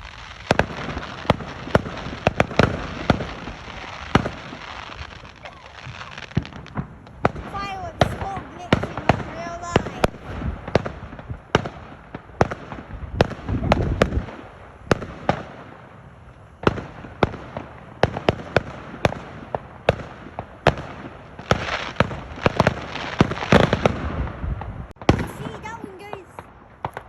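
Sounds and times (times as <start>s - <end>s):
fireworks bangs: 0.0s - 27.0s
fireworks crackle: 0.0s - 27.0s.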